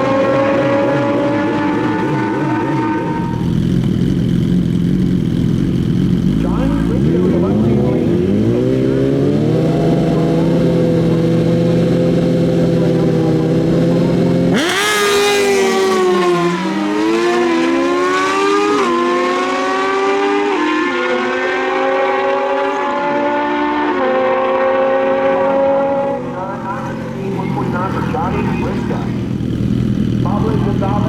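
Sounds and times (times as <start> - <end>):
sport bike engines revving: 0.0 - 31.0.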